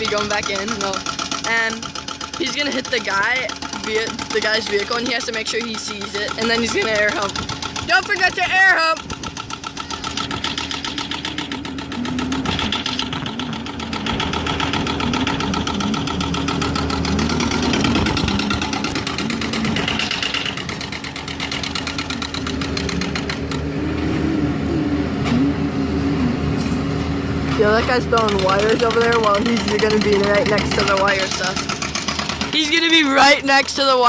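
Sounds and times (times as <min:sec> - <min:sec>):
construction machinery engine running: 0:00.0 - 0:34.0.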